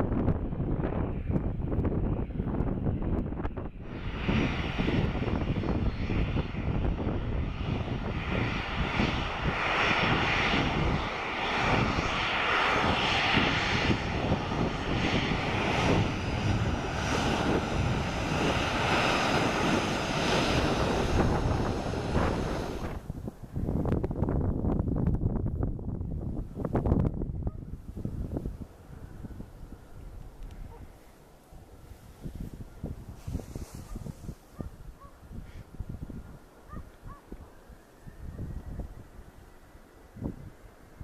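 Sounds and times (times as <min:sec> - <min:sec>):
airliner engines rumbling: 0:00.0 - 0:41.0.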